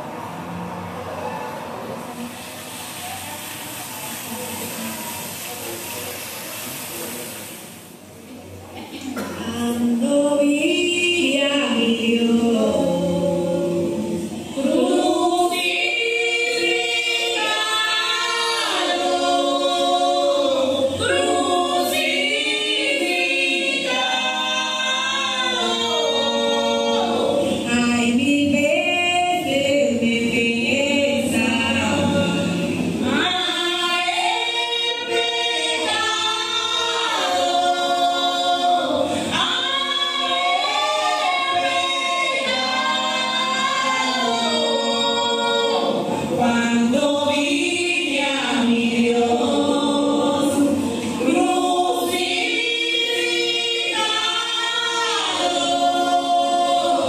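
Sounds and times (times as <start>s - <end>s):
group singing unaccompanied: 9.1s - 57.0s.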